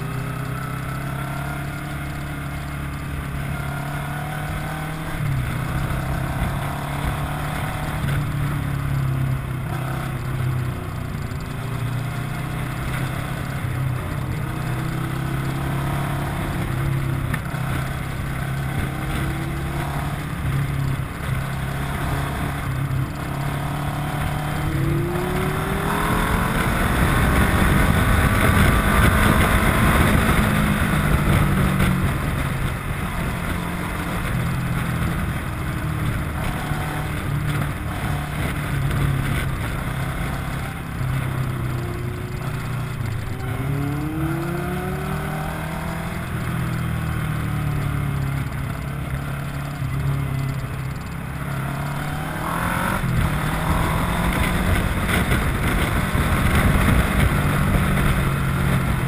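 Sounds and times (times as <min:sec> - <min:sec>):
motorcycle engine revving: 0:00.0 - 0:59.0
wind noise on microphone: 0:11.2 - 0:59.0.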